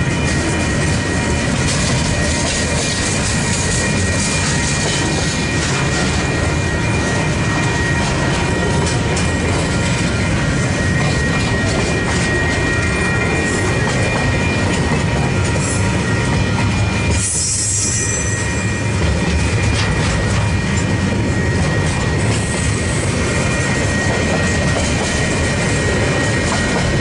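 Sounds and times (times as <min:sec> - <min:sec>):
high-pitched ringing tones: 0:00.0 - 0:27.0
train wheels rumbling on rails: 0:00.0 - 0:27.0.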